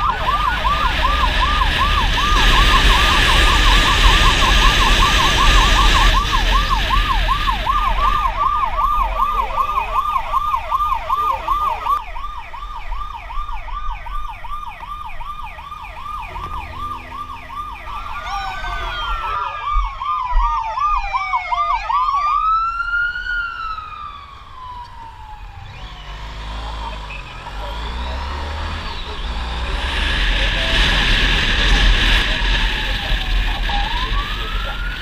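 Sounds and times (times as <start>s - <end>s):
motorcycle siren yelping: 0.0s - 35.0s.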